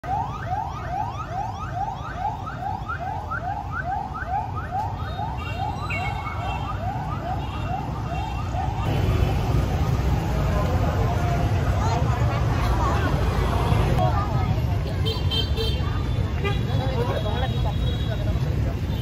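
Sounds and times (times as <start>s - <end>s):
low traffic rumble: 0.0s - 19.0s.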